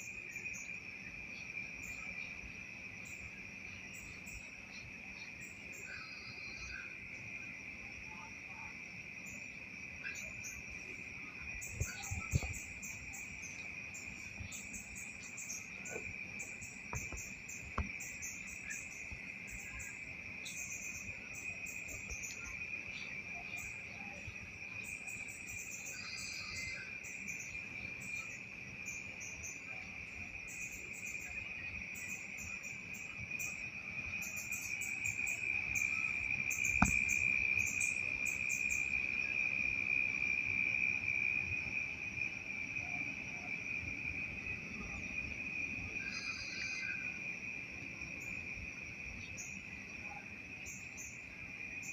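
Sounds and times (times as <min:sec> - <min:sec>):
insects trilling: 0:00.0 - 0:51.9
rapid insect chirping: 0:00.0 - 0:51.9.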